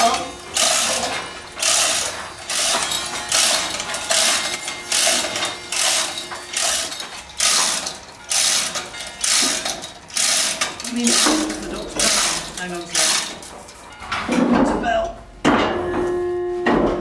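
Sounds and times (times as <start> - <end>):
hoist chain clattering: 0.0 - 14.8.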